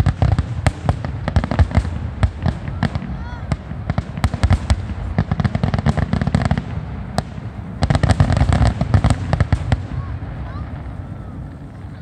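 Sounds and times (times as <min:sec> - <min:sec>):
fireworks bursting: 0:00.0 - 0:12.0
fireworks crackling: 0:00.0 - 0:12.0.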